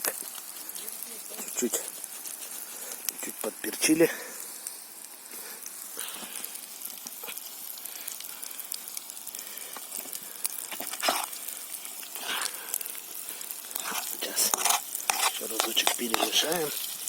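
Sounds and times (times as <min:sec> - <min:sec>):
roe sizzling in a pan: 0:00.0 - 0:17.0
sharp frying pops: 0:00.0 - 0:17.0.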